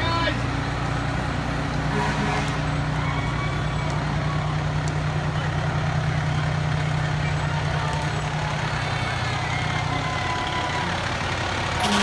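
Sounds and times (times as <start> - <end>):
diesel truck engines rumbling: 0.0 - 12.0.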